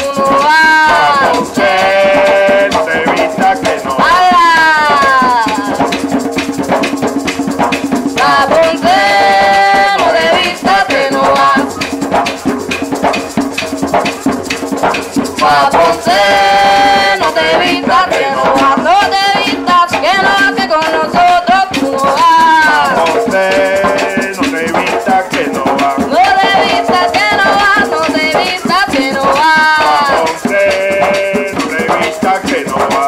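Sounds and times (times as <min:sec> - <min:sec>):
woman singing: 0:00.0 - 0:06.0, 0:08.2 - 0:11.9, 0:15.4 - 0:33.0
barrel drums: 0:00.0 - 0:33.0
maraca rattling: 0:00.0 - 0:33.0.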